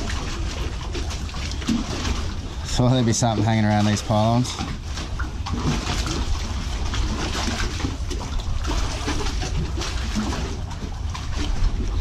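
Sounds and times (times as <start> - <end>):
water lapping against pylons: 0.0 - 12.0
wind rumble on microphone: 0.0 - 12.0.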